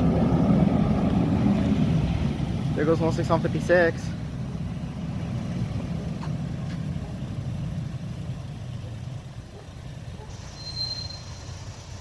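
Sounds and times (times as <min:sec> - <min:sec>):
garbage truck engine rumbling: 0:00.0 - 0:12.0.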